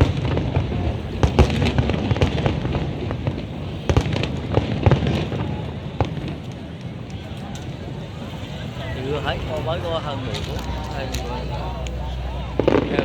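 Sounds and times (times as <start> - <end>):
fireworks bangs and pops: 0.0 - 8.4, 9.1 - 13.0
steady low rumble: 0.0 - 13.0.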